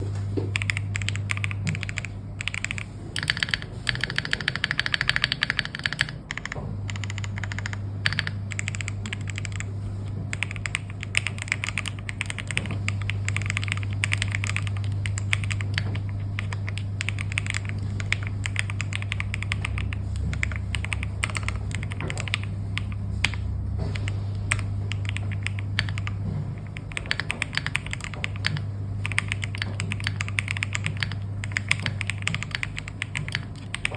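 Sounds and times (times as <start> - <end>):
mechanical keyboard typing: 0.0 - 33.9
steady low hum: 0.0 - 33.9.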